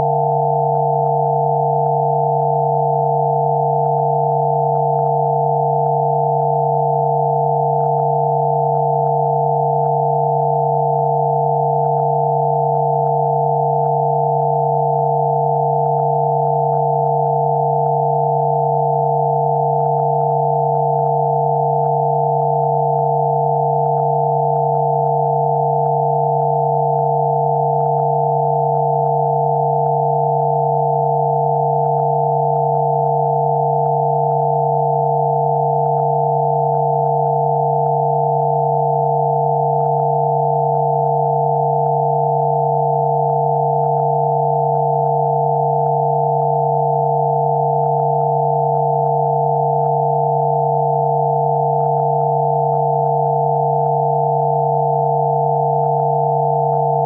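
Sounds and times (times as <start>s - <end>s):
electronic pure tones: 0.0s - 57.0s.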